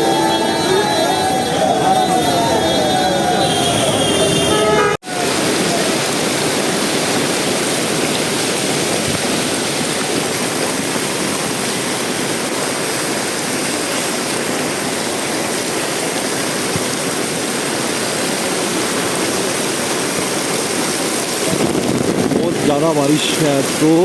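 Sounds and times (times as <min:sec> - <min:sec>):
rushing water: 0:00.0 - 0:24.0.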